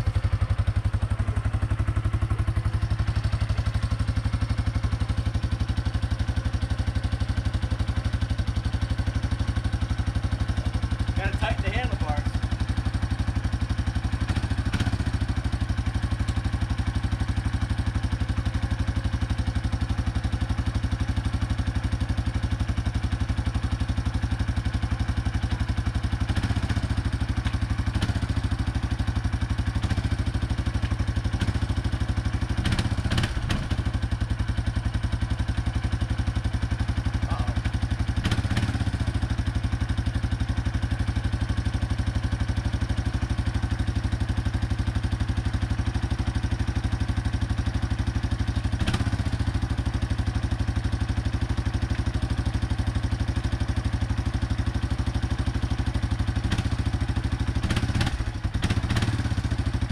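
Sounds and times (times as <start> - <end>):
atv engine idling: 0.0 - 59.9.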